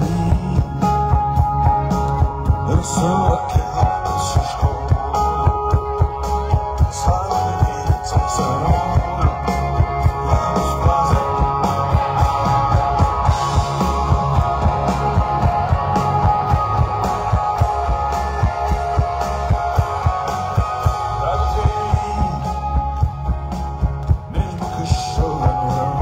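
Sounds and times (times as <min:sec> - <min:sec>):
bass guitar: 0:00.0 - 0:26.0
drum beat: 0:00.0 - 0:26.0
electric guitars: 0:00.0 - 0:26.0.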